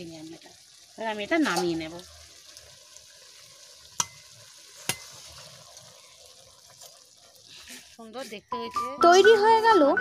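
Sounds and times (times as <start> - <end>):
curry simmering: 0.0 - 9.9.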